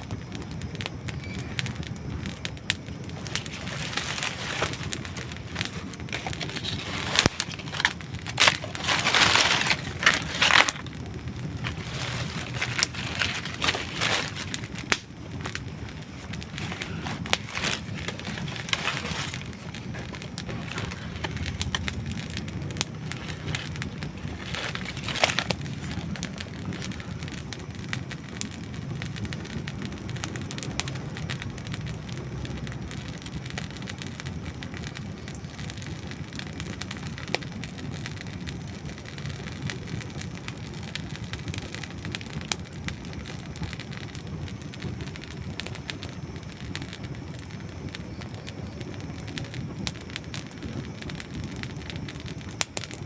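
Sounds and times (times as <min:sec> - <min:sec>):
campfire flames rushing: 0:00.0 - 0:53.0
fire crackling and popping: 0:00.0 - 0:53.0.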